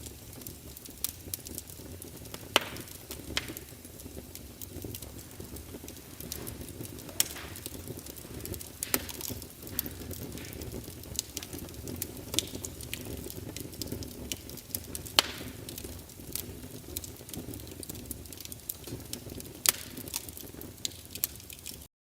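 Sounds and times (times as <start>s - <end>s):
wood fire crackling: 0.0s - 21.9s.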